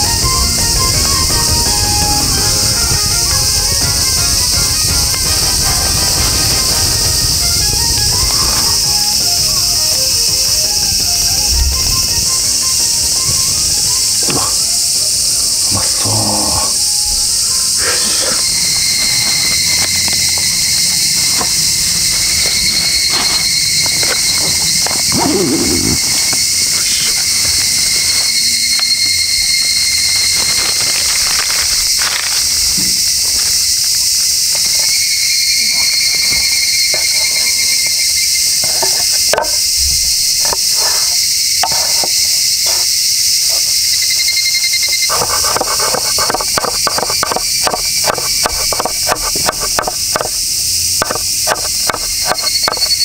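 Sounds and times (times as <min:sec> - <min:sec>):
cicadas singing: 0:00.0 - 0:53.0.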